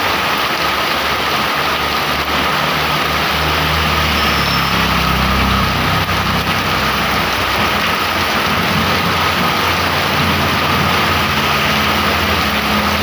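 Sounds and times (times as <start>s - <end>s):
heavy rain: 0.0s - 13.0s
vehicle engine humming: 0.4s - 13.0s.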